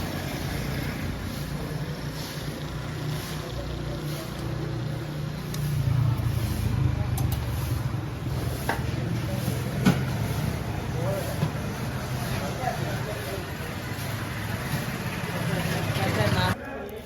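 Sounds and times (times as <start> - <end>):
traffic engine hum: 0.0 - 16.6.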